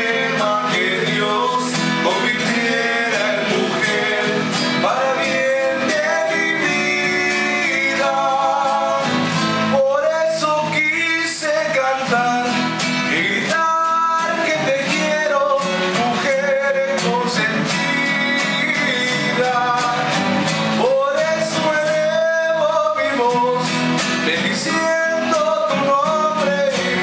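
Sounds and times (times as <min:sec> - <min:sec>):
acoustic guitars playing: 0:00.0 - 0:27.0
people singing: 0:00.0 - 0:27.0.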